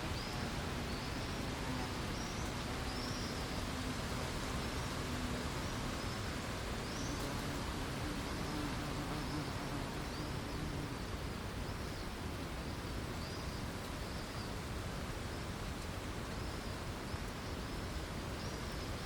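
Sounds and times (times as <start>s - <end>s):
low insect buzz: 0.0s - 19.0s
outdoor hiss: 0.0s - 19.0s.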